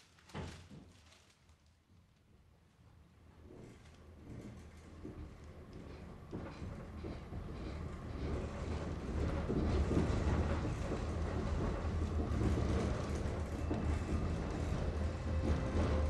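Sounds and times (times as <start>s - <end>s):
tram rumbling and rattling: 3.1s - 16.0s.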